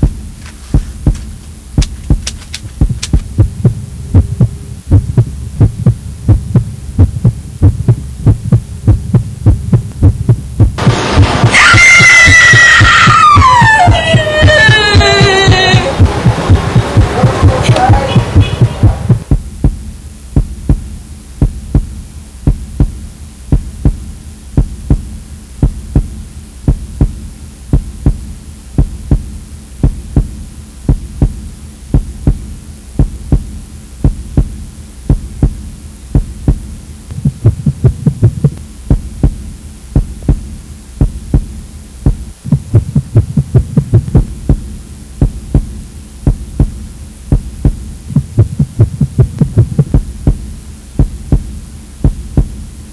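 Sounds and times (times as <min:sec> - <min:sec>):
heartbeat double thumps: 0:00.0 - 0:11.6, 0:12.2 - 0:52.8
low droning hum: 0:00.0 - 0:52.9.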